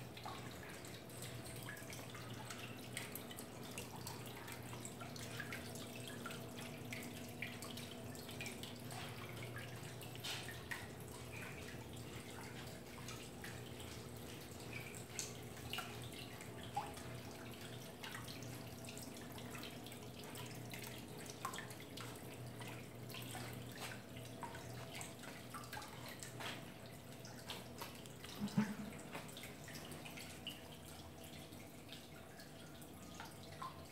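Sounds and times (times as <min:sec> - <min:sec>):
water trickling and dripping: 0:00.0 - 0:33.9.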